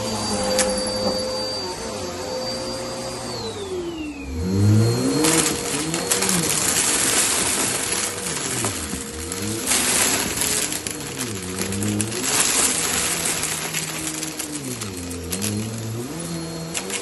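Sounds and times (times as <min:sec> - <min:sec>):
vacuum brush on rug: 0:00.0 - 0:17.0
vacuum cleaner motor whine: 0:00.0 - 0:17.0.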